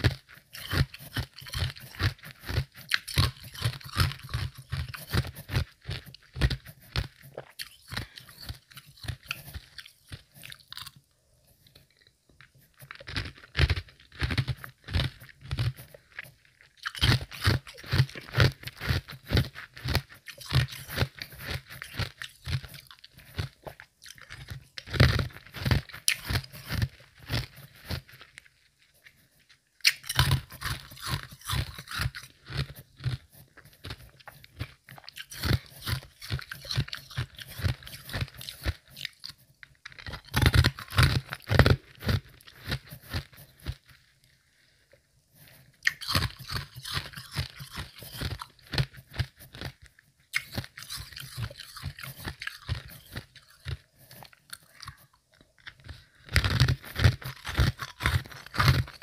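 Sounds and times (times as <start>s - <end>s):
chewing ice crunches: 0.0s - 43.9s, 45.8s - 59.0s.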